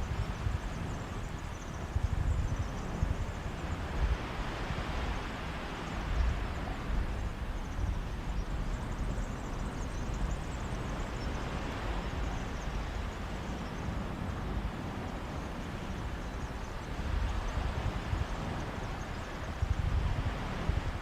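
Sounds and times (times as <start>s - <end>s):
sea surf washing on beach: 0.0s - 21.0s
wind on microphone: 0.0s - 21.0s.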